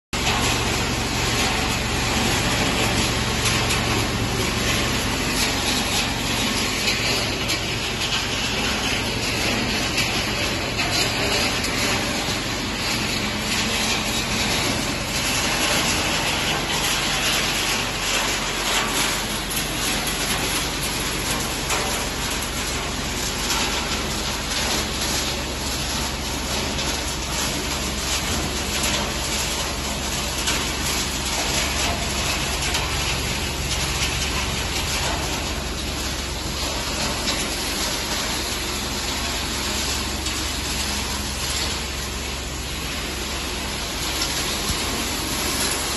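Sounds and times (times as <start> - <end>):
dense mechanical noise: 0.1 - 45.9
low machine hum: 0.2 - 45.9.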